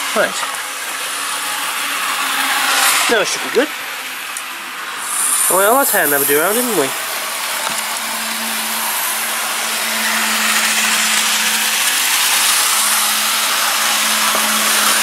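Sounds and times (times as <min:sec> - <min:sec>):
model train motors whirring: 0:00.0 - 0:15.0.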